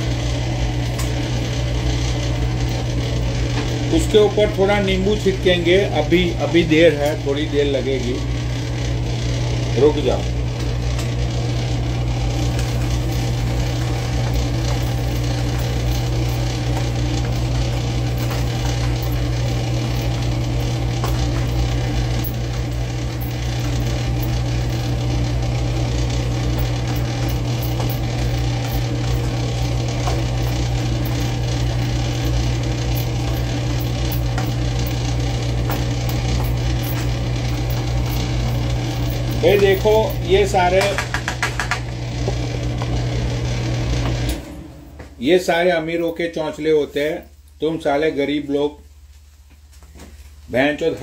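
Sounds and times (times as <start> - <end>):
low hum: 0.0 - 46.1.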